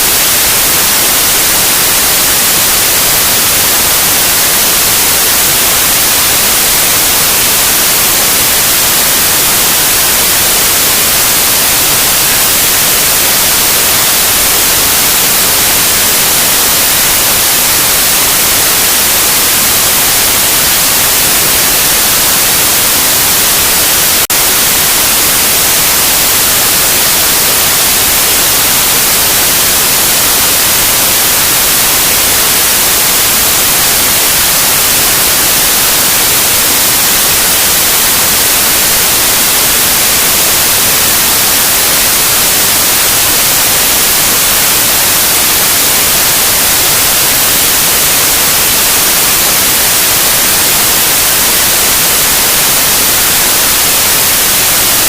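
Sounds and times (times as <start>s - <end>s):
loud white noise hiss: 0.0s - 55.0s.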